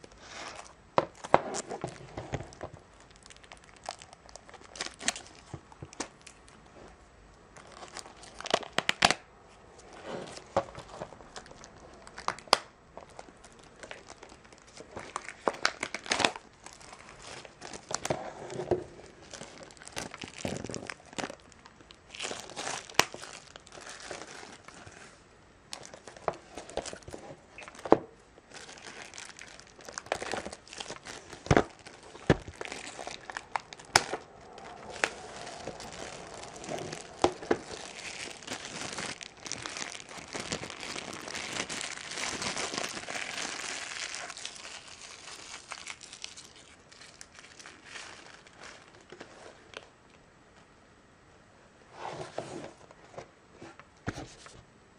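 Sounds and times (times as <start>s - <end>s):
plastic wrap crinkling: 0.0s - 6.6s, 7.6s - 9.3s, 9.9s - 49.9s.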